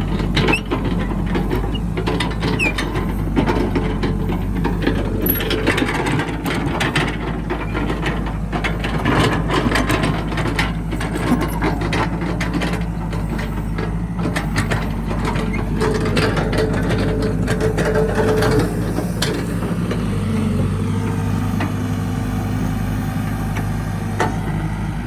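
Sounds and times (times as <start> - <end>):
metal clanks and knocks: 0.0 - 20.3
diesel engine running: 0.0 - 25.0.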